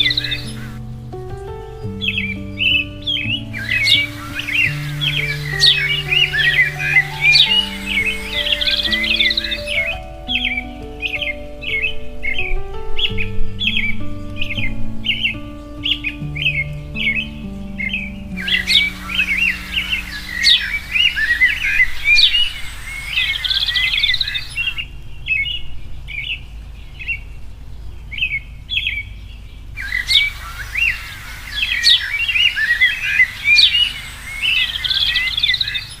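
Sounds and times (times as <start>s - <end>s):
background hiss: 0.0s - 28.1s, 29.7s - 36.0s
birds chirping and singing: 0.0s - 36.0s.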